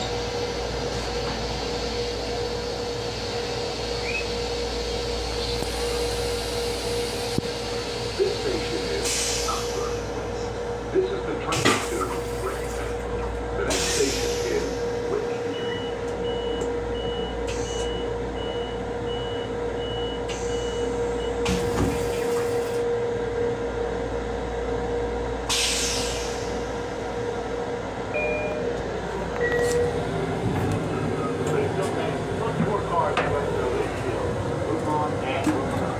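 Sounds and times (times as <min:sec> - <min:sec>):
train running hum: 0:00.0 - 0:35.9.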